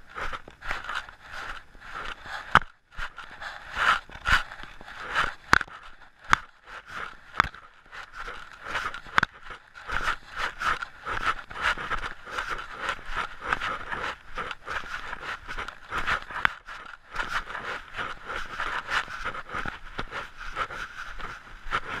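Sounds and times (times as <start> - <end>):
footsteps crunching on gravel: 0.0 - 22.0
handheld camera rubbing: 0.0 - 22.0.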